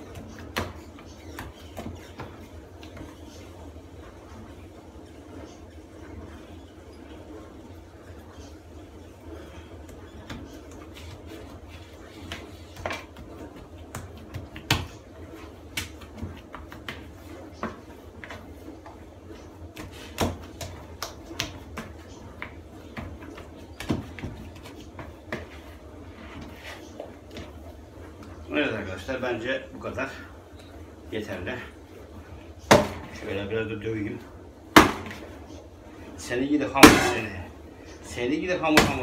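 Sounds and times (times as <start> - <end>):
dough kneaded with squelchy pops: 0.0 - 7.6, 8.2 - 28.9, 29.8 - 39.0.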